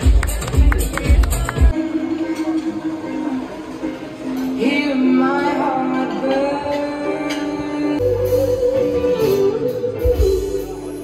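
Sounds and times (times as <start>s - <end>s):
person singing: 0.0s - 10.9s
guitar and band: 0.0s - 11.0s.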